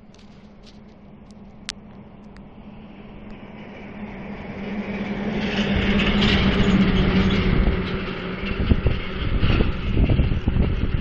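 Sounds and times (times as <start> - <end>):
rumbling gusty noise: 0.0 - 11.0.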